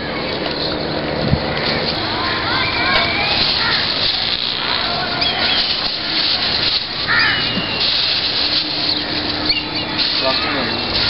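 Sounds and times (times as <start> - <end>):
outdoor noise: 0.0 - 11.0
harsh bird calls: 1.5 - 11.0.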